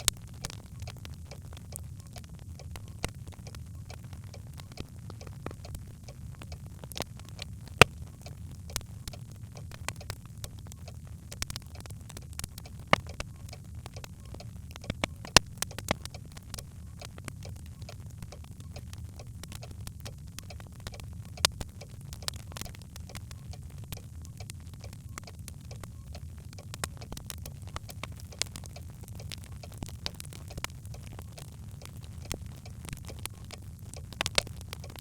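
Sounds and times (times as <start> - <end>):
fire crackling and popping: 0.0 - 35.0
fire rumbling in fireplace: 0.0 - 35.0.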